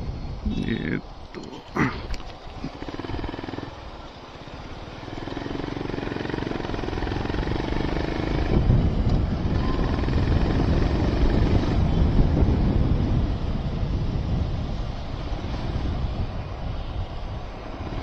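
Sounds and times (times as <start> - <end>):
wind rumbling on microphone: 0.0 - 18.0
motorcycle engine running: 2.2 - 18.0.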